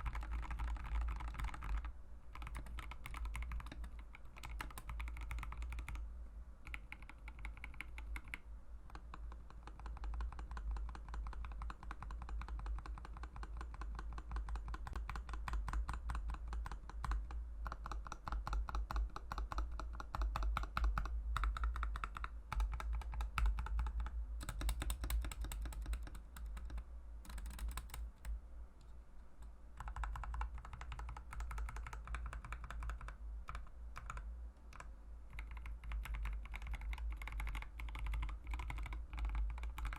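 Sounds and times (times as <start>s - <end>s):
fast typing on mechanical keyboard: 0.0s - 6.0s, 6.6s - 28.3s, 29.8s - 39.9s.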